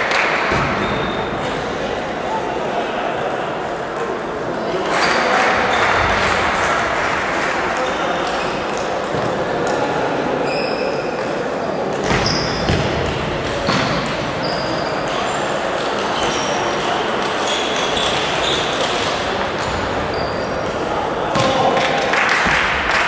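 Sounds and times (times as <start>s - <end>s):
murmur of voices: 0.0s - 23.0s.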